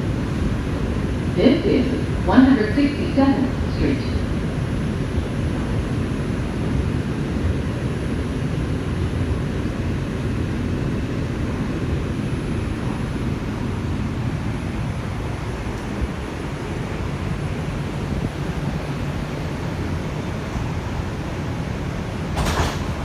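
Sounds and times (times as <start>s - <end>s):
subway wheels rumbling on rails: 0.0s - 23.0s
train car running noise: 0.0s - 23.0s.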